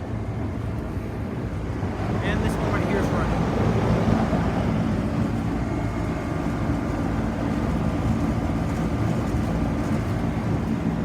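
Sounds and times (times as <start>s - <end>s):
air conditioner compressor hum: 0.0s - 11.0s
condenser fan whoosh: 0.0s - 11.0s.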